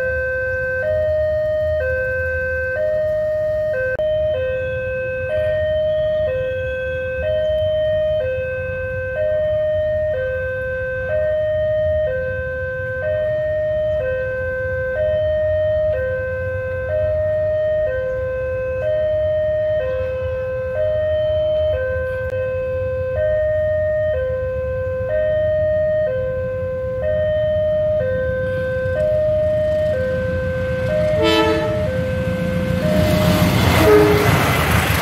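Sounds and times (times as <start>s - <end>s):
two-tone crossing alarm chime: 0.0s - 34.2s
low traffic rumble: 0.0s - 35.0s.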